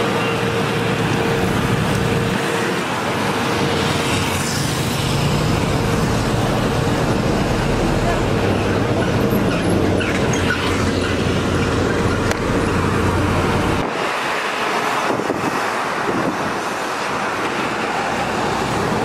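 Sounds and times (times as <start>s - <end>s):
diesel engine humming: 0.0s - 19.0s
outdoor noise: 0.0s - 19.0s.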